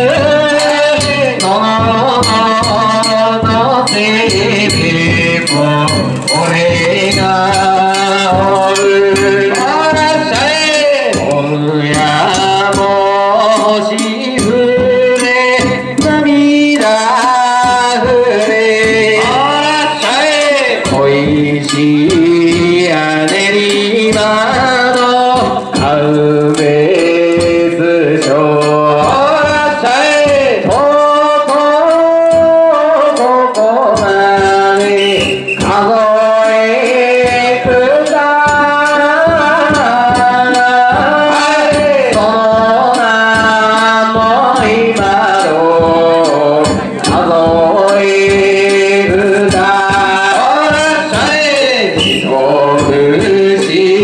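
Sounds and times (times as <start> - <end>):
man singing into a microphone: 0.0 - 54.0.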